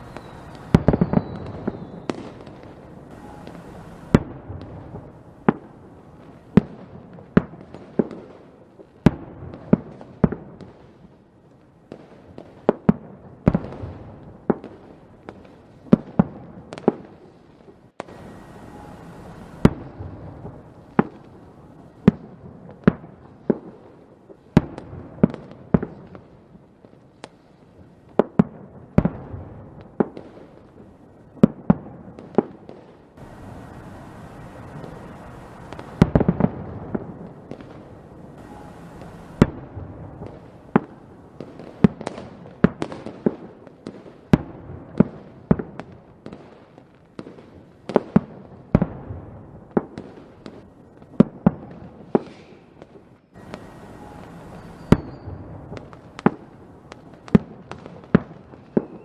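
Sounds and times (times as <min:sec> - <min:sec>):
fireworks crackle: 0:00.0 - 0:59.0
fireworks exploding: 0:00.0 - 0:59.0.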